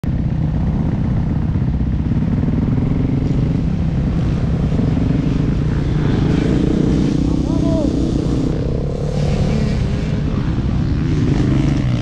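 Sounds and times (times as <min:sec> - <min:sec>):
motorbike engine at low revs: 0:00.0 - 0:12.0.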